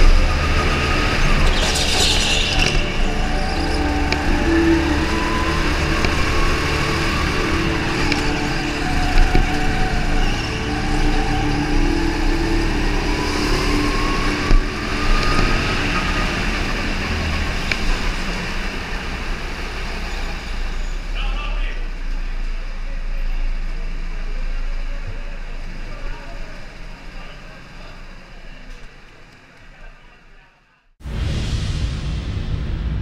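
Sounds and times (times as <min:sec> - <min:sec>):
kart engine accelerating: 0:00.0 - 0:29.6.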